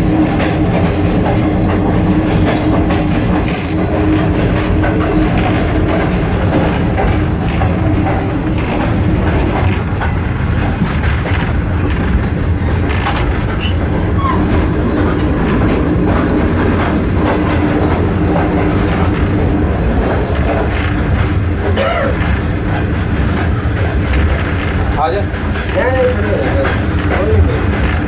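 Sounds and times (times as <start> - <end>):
train rumble: 0.0 - 28.0
wheel clatter over rails: 0.0 - 28.0.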